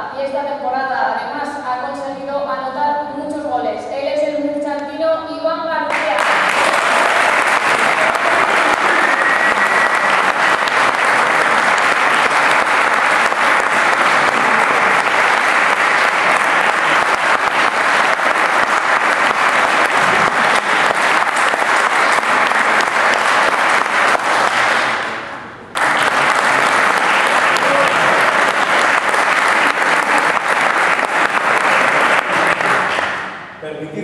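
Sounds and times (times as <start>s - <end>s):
audience applauding: 5.9s - 33.5s.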